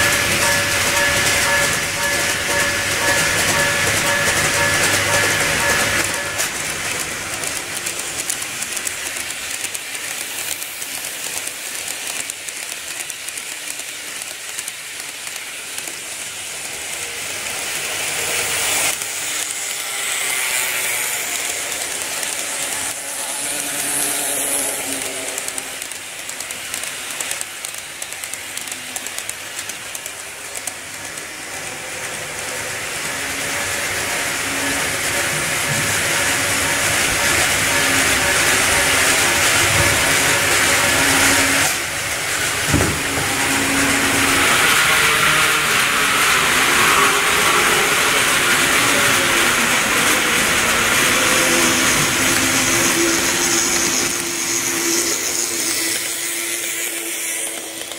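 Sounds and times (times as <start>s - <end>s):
model trains whirring: 0.0s - 57.9s.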